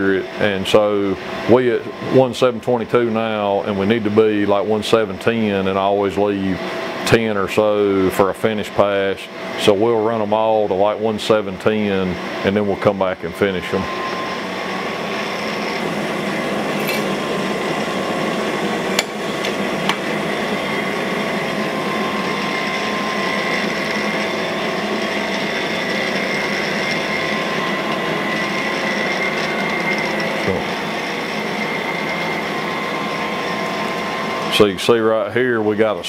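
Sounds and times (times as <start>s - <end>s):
grinding wheel hiss: 0.0s - 36.0s
machine hum: 0.0s - 36.0s.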